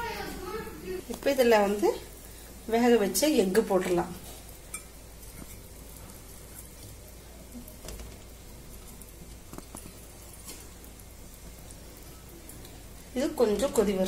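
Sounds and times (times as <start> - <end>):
gravy simmering in a pot: 0.0 - 14.0.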